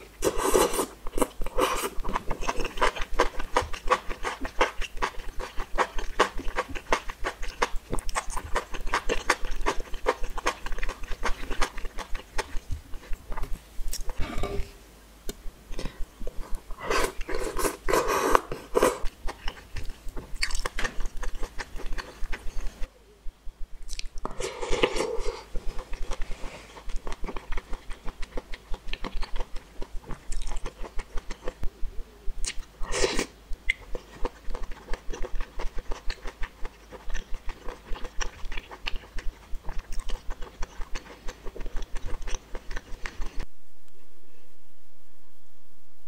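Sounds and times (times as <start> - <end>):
wet chewing: 0.2 - 14.2, 15.7 - 22.8, 23.9 - 31.7, 32.4 - 43.4.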